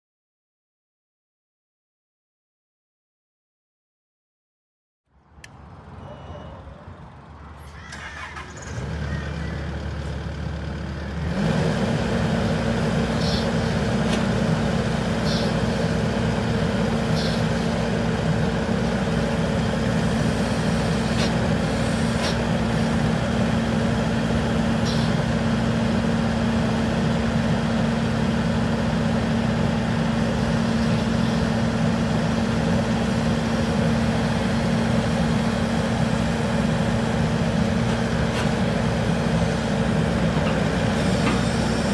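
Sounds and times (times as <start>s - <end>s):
excavator diesel engine running: 5.6s - 41.9s.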